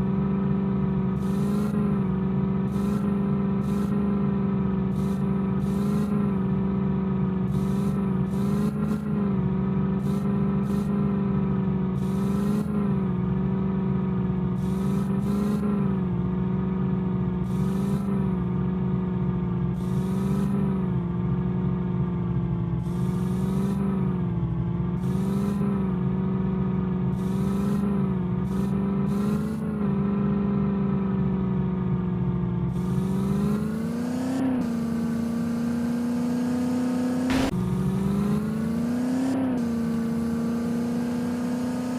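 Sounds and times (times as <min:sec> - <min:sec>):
car engine running: 0:00.0 - 0:41.9.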